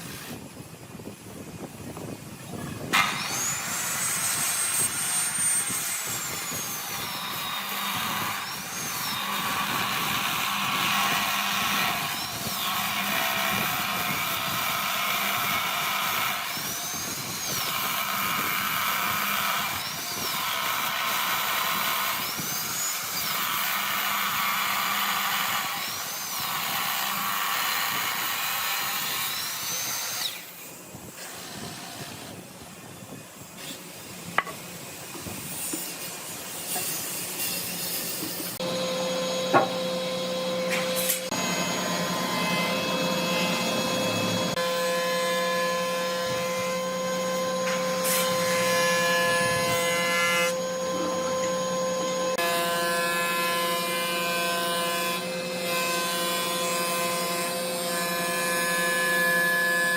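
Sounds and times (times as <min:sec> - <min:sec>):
noisy cutting sound: 0:02.0 - 0:32.6, 0:33.5 - 0:59.9
power tool motor whining: 0:02.8 - 0:30.5, 0:36.8 - 0:59.9.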